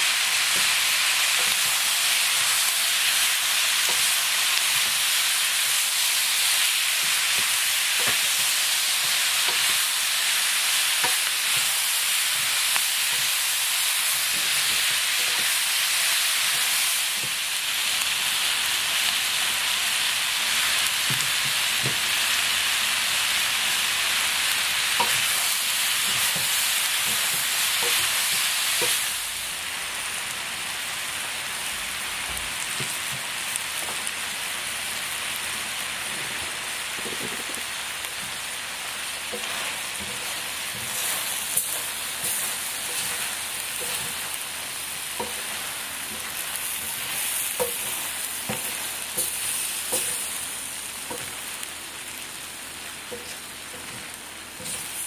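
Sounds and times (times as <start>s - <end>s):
stir-fry sizzling in a frying pan: 0.0s - 55.0s.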